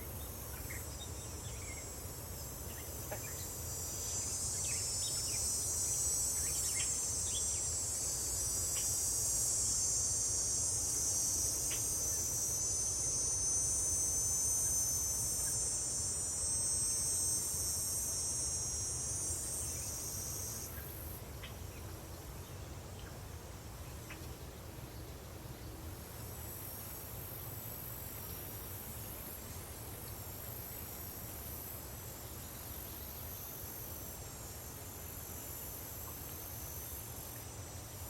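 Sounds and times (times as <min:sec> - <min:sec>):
insect chorus: 0:00.0 - 0:38.0.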